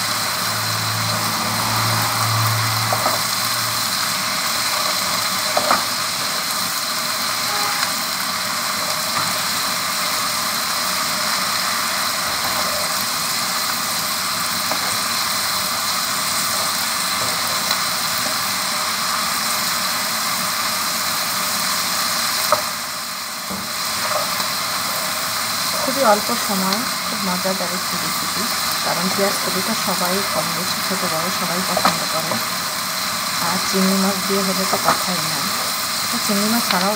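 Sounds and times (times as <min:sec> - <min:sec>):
food sizzling in a wok: 0:00.0 - 0:36.9.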